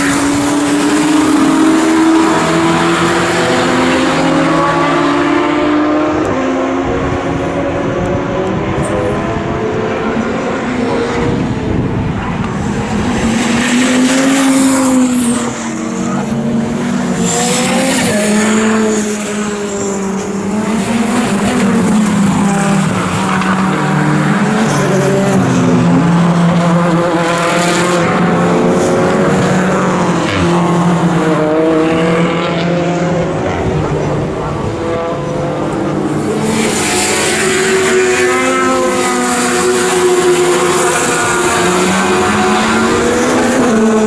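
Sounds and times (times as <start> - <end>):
racing car engines passing: 0.0 - 44.0.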